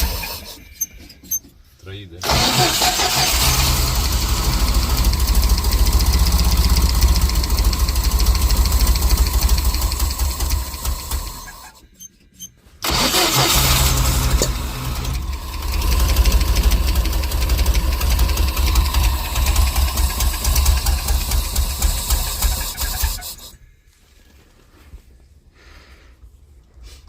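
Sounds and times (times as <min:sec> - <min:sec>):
van engine starting and running: 0:00.0 - 0:23.9.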